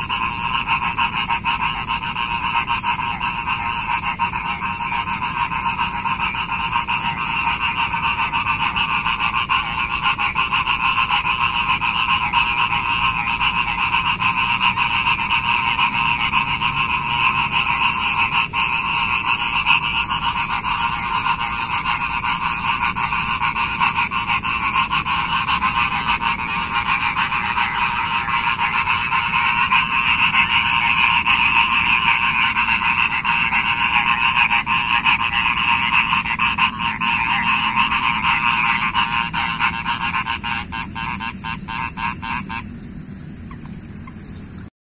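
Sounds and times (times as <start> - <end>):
chorus of frogs calling: 0.0 - 44.7.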